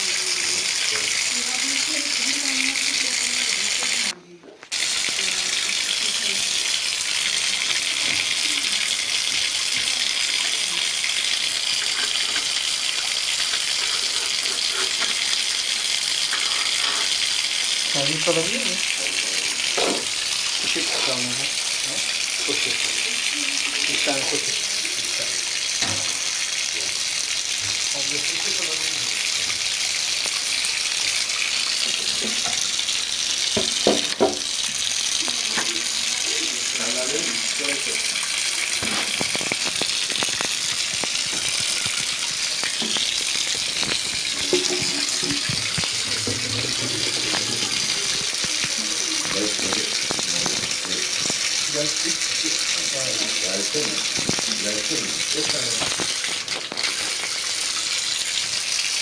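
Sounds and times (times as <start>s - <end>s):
running water hissing: 0.0s - 59.0s.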